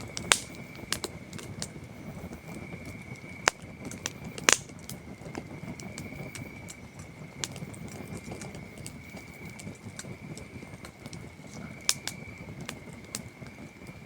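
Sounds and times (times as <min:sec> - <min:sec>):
campfire wood crackling: 0:00.0 - 0:14.0
crickets trilling: 0:00.0 - 0:14.0
low burning noise: 0:00.0 - 0:14.0.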